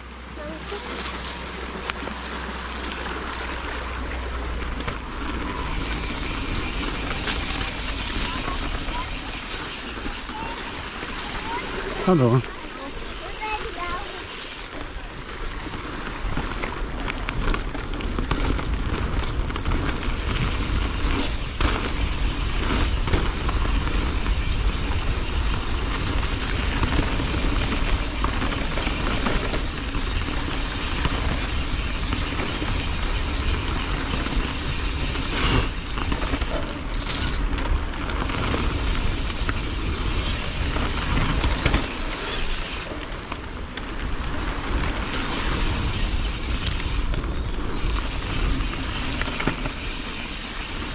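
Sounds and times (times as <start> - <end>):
tyres rolling on dirt: 0.0 - 50.9
wind rumbling on microphone: 0.0 - 50.9
bike knocking and rattling: 0.4 - 50.9.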